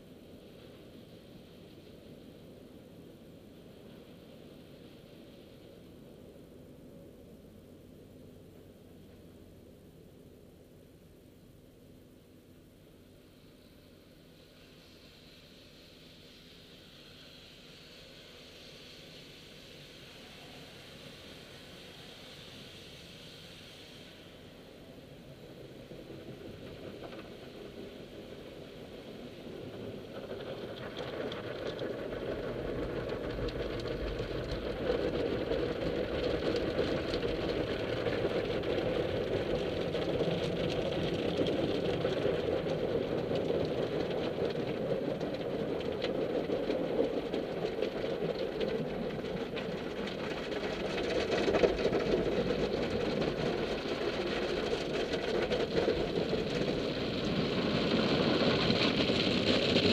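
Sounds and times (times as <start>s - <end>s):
muffled car wash water and scrubbing: 0.0s - 59.9s.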